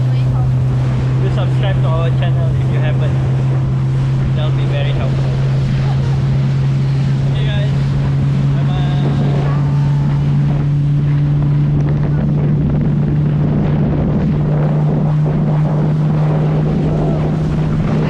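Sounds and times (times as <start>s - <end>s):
outboard motor running: 0.0s - 18.0s
wind buffeting microphone: 0.0s - 18.0s.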